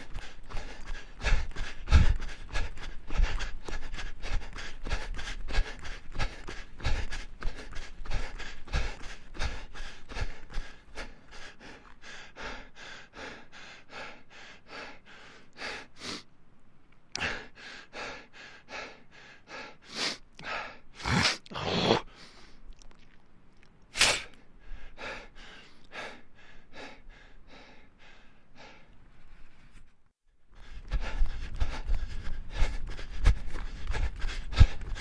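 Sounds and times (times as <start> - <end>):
person breathing hard: 0.0 - 16.3, 17.2 - 22.6, 24.2 - 35.0.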